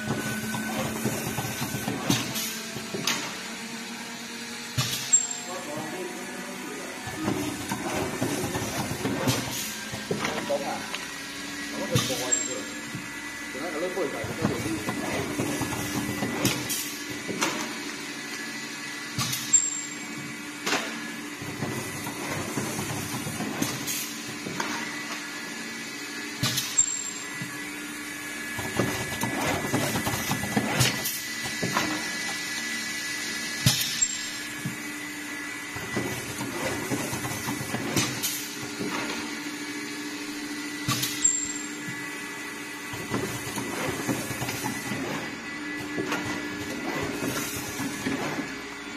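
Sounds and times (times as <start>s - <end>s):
machine humming: 0.0s - 48.9s.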